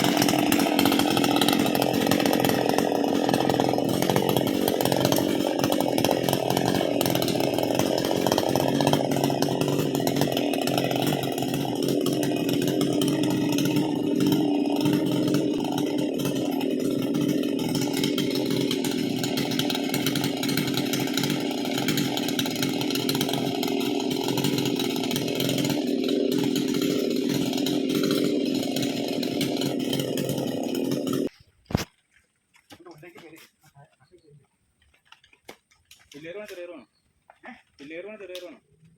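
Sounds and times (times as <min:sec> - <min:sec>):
chainsaw running: 0:00.0 - 0:32.0.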